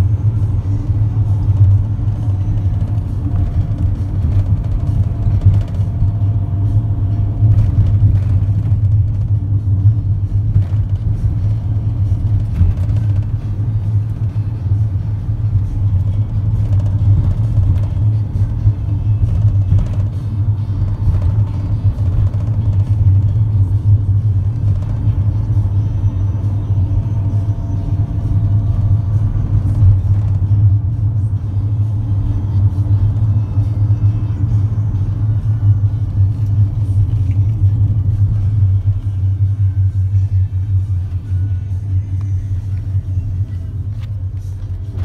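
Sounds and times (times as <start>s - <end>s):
van engine and tyres rumbling: 0.0s - 45.0s.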